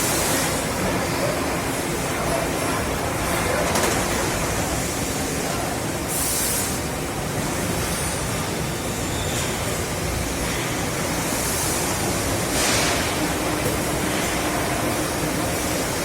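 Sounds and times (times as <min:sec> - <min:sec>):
factory machinery noise: 0:00.0 - 0:16.0.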